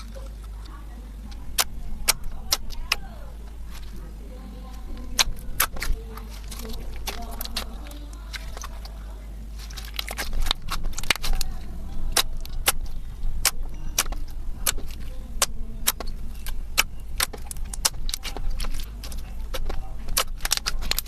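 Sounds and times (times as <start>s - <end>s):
slime clicking and popping: 0.0s - 4.0s, 4.7s - 21.0s.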